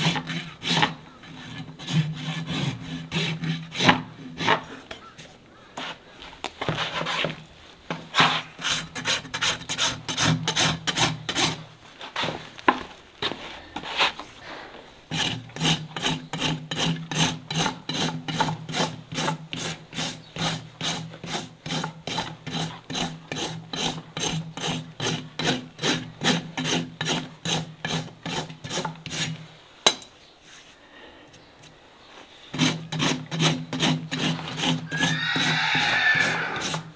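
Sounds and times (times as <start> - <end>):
hoof rasp filing hoof: 0.0 - 6.0, 6.6 - 12.5, 13.2 - 29.5, 32.4 - 36.9.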